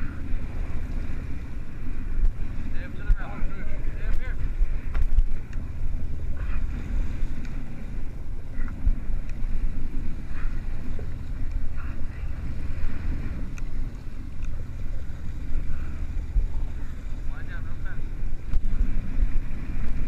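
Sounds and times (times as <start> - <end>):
boat engine running: 0.0 - 20.0
wind buffeting the microphone: 0.0 - 20.0.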